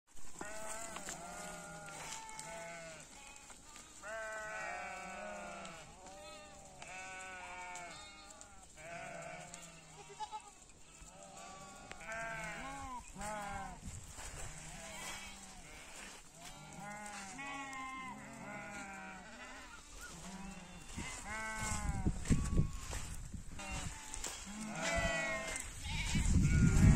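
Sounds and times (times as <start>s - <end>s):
sheep and goats bleating: 0.2s - 26.9s.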